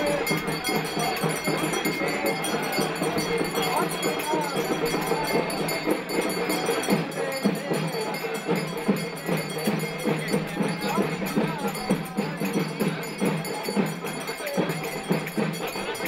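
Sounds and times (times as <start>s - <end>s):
fast percussion beat: 0.0s - 16.0s
voices calling: 0.0s - 16.0s.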